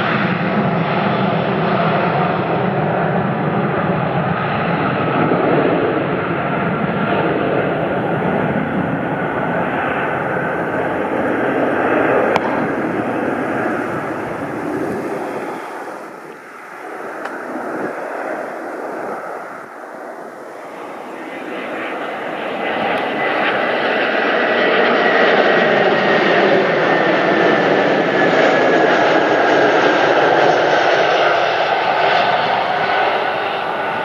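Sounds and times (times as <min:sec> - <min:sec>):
airliner engines passing: 0:00.0 - 0:34.0.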